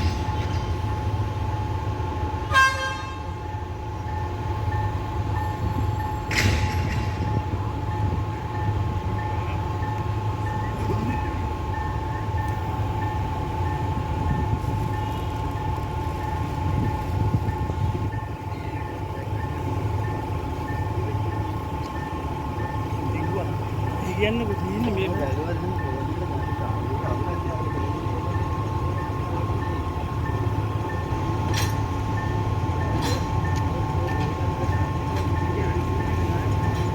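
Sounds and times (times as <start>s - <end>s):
train engine rumble and whine: 0.0s - 36.9s.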